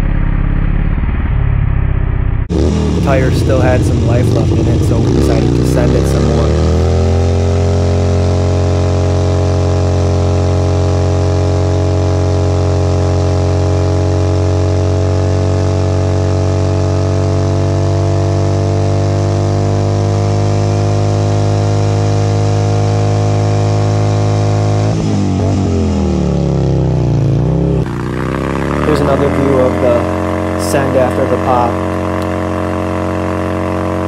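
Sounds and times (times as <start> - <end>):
motorcycle engine at high revs: 2.5 - 34.0.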